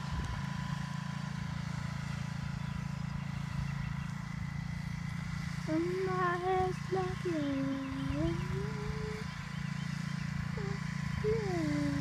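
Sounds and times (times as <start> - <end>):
drawn-out pitched hum: 0.0 - 12.0
riding mower engine running: 0.0 - 12.0.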